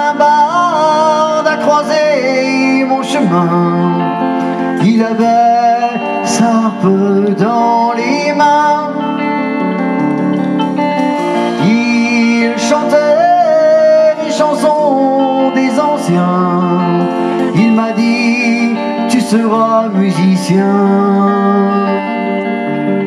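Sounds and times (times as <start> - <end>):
folk-rock band playing: 0.0 - 23.0.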